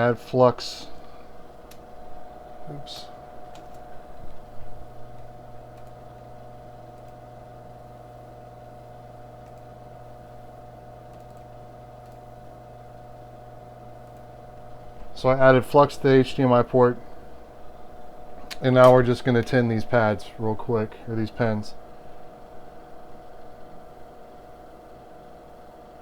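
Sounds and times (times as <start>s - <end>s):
electrical hum of equipment: 0.0s - 26.0s.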